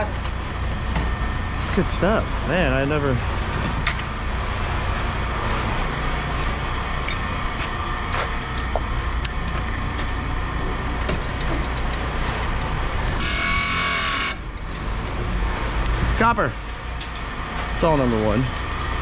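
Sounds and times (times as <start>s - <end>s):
low engine rumble: 0.0s - 17.3s.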